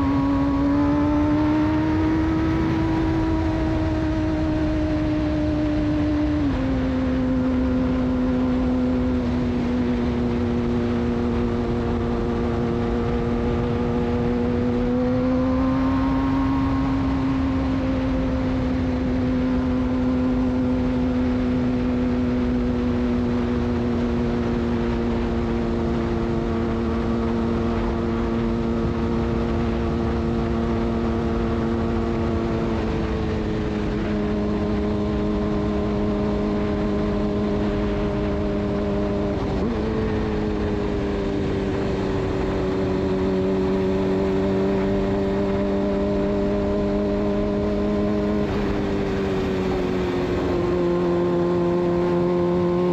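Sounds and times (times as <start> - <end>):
low wind rush: 0.0 - 52.9
motorcycle engine at high revs: 0.0 - 52.9.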